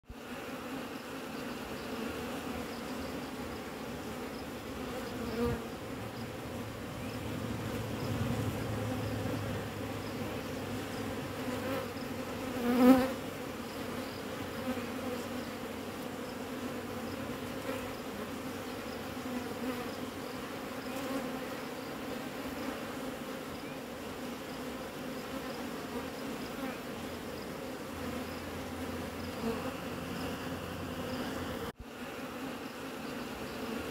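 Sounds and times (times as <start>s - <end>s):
honeybees buzzing: 0.1s - 33.9s.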